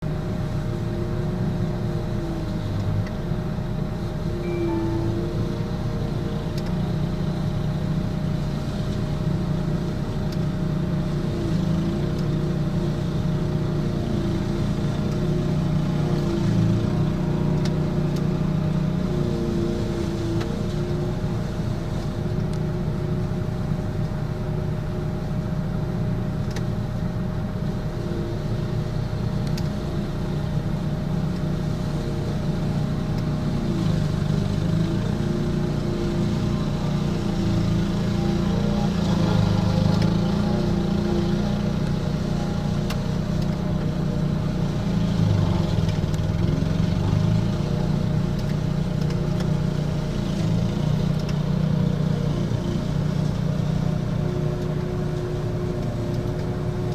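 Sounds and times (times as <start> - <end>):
mower engine running: 3.6 - 56.9.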